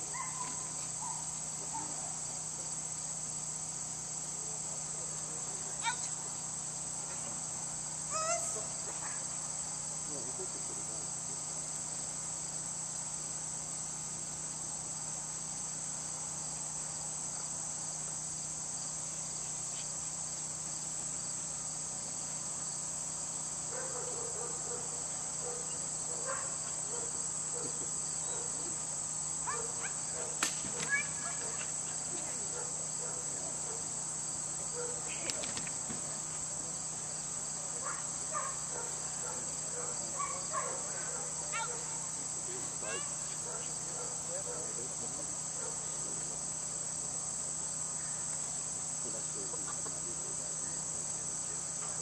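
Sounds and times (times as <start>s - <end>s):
insects chirping in grass: 0.0s - 52.0s.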